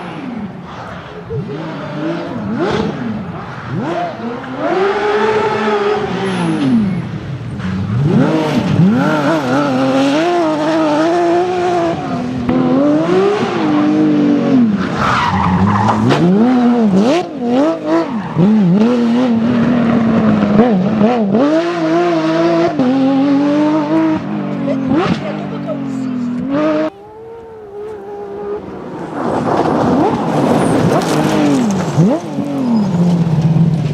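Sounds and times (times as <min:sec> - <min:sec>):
car engine revving hard: 0:00.0 - 0:27.0, 0:28.6 - 0:33.6.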